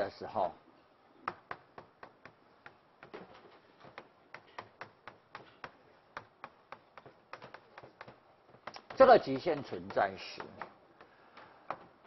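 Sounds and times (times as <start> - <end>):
chalk tapping on blackboard: 1.2 - 12.0.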